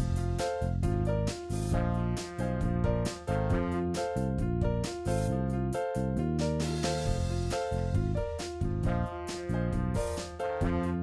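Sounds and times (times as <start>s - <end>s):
programmed backing with bass line: 0.0s - 11.0s
upbeat digital piano tune: 0.0s - 11.0s.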